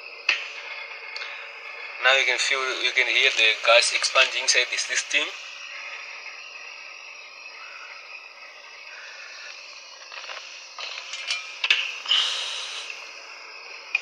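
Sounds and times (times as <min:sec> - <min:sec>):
refrigerant gas hissing: 0:00.0 - 0:14.0.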